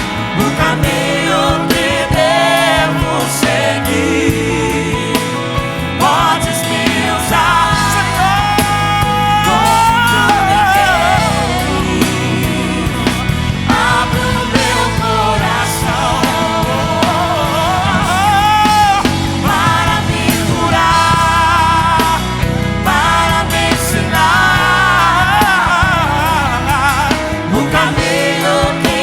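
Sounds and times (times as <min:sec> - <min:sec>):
gospel rock band playing: 0:00.0 - 0:29.0.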